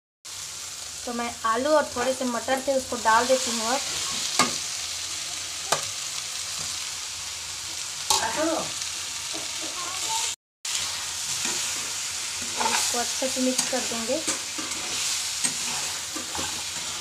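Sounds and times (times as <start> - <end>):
food sizzling in a pan: 0.3 - 17.0.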